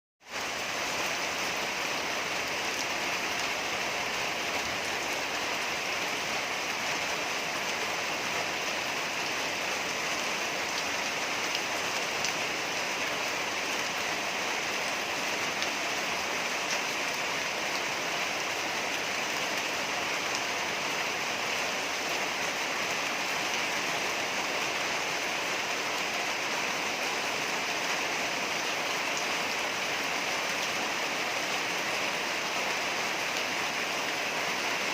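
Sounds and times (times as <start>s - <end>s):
steady rain: 0.2s - 34.9s.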